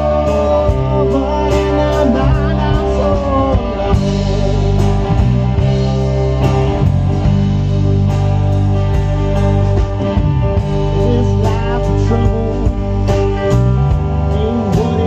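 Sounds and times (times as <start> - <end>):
lead guitar bending notes: 0.0 - 15.0
live rock band playing: 0.0 - 15.0.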